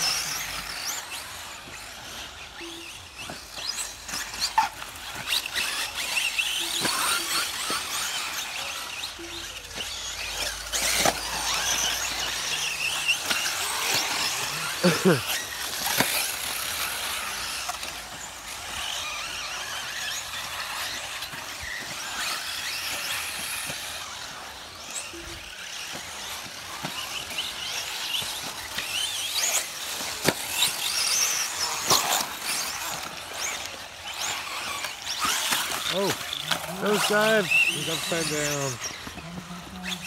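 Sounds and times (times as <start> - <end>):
electric motors whining: 0.0 - 40.0.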